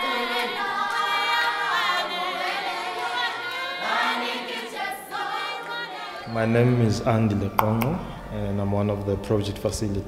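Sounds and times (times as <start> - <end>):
choir singing: 0.0 - 10.0.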